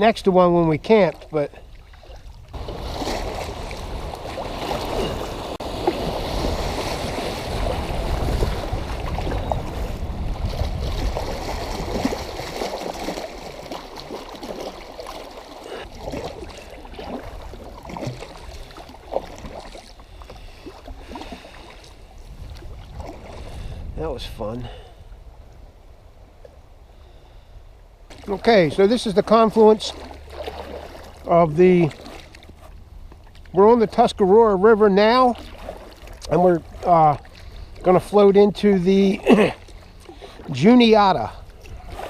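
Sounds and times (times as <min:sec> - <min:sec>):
water rushing around a kayak: 0:00.0 - 0:42.0.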